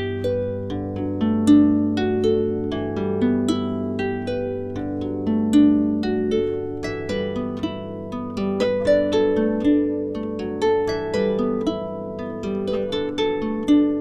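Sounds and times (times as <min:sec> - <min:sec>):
plucked string instrumental music: 0:00.0 - 0:14.0.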